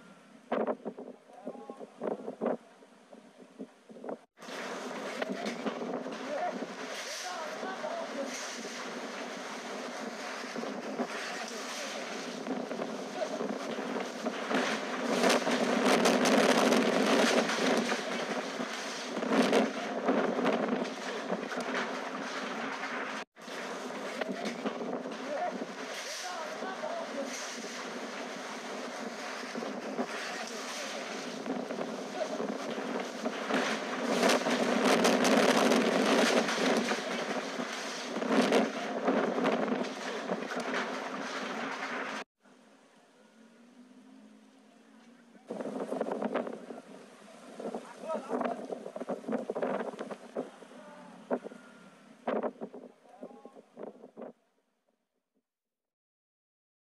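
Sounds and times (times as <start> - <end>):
gusting wind: 0.0 - 42.3, 45.4 - 54.3
crackling rattle: 3.9 - 42.2, 45.5 - 54.4.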